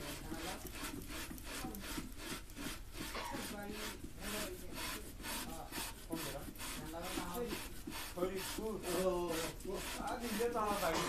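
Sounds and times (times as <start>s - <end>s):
tool scraping clay pot: 0.0s - 11.0s.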